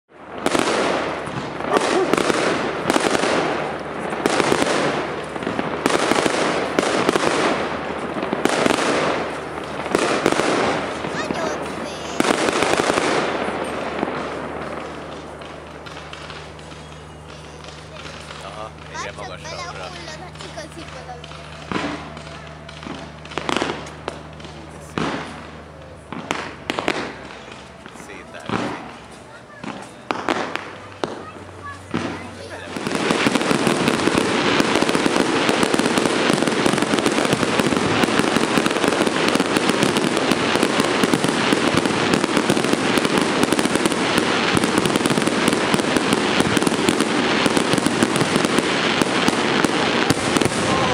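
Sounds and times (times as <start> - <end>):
fireworks bangs: 0.1 - 50.9
fireworks crackle: 0.1 - 50.9.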